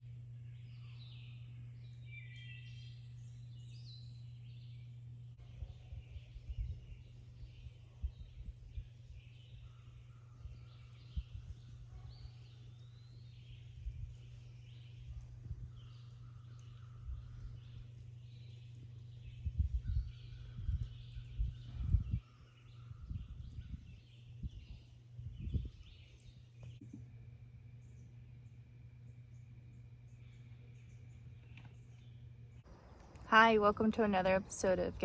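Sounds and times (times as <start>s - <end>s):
steady low hum: 0.0s - 35.0s
birds chirping and singing: 0.1s - 35.0s.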